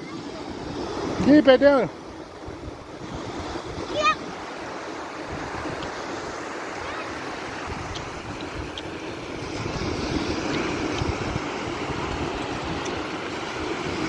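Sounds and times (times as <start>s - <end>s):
surf washing up sand: 0.0s - 14.0s.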